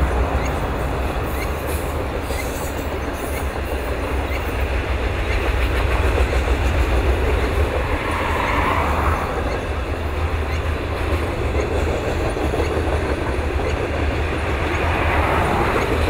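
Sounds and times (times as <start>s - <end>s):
freight train rolling past: 0.0s - 16.0s
wheels rattling on rails: 0.0s - 16.0s.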